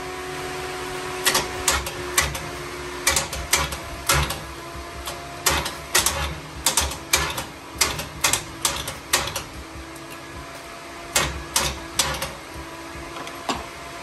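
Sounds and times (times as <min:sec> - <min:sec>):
steady hum: 0:00.0 - 0:14.0
sharp metallic clicks and knocks: 0:01.2 - 0:13.7.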